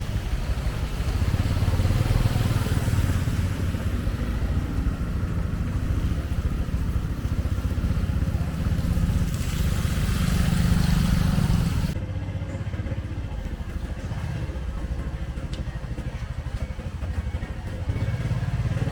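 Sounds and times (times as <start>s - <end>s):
motorcycle engines running: 0.0s - 18.9s
street traffic noise: 0.0s - 18.9s.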